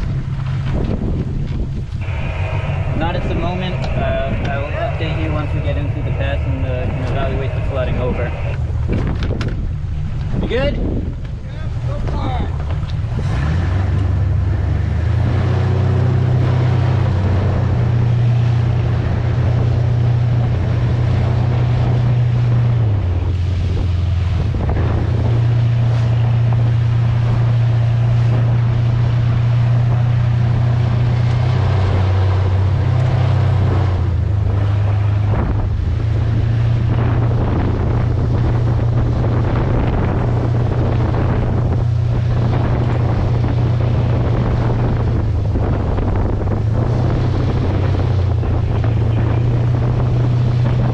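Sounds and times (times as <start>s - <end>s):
boat engine humming: 0.0s - 50.9s
rush of boat wake: 0.0s - 50.9s
wind buffeting microphone: 0.0s - 50.9s.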